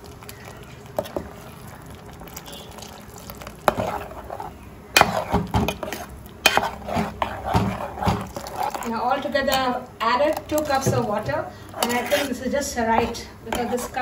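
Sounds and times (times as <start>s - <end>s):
ladle stirring thick curry: 0.0s - 14.0s.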